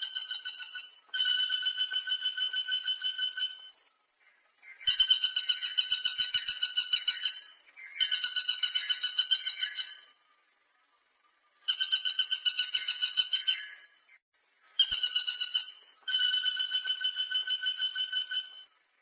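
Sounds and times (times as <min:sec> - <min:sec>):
woodpecker rattling call: 0:00.0 - 0:10.2, 0:11.6 - 0:14.2, 0:14.8 - 0:18.7.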